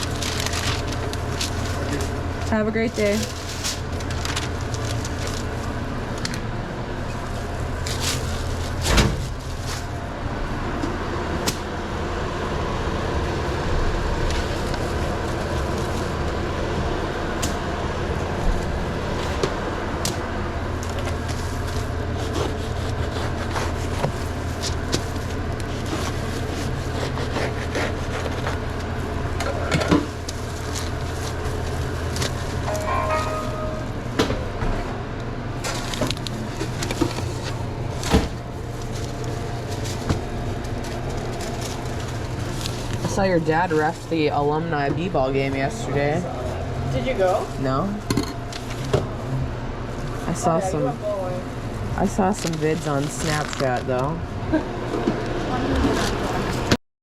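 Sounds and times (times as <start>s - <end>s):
kitchen equipment humming: 0.0s - 56.8s.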